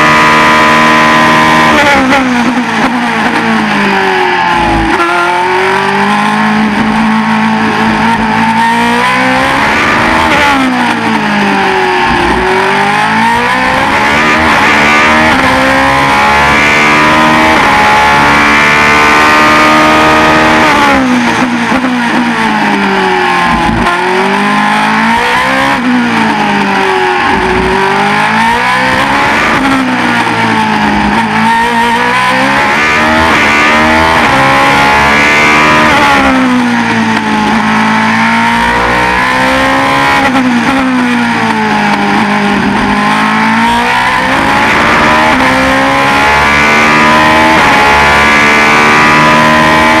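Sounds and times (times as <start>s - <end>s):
race car engine accelerating: 0.0s - 50.0s.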